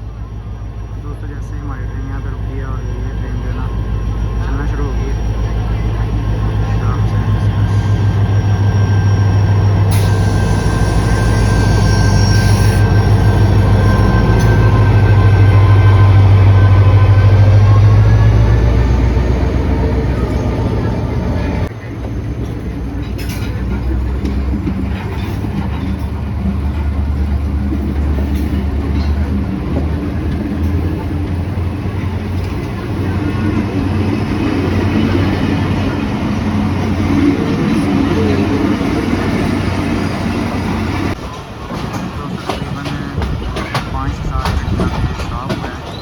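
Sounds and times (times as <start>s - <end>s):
train pulling away: 0.0s - 46.0s.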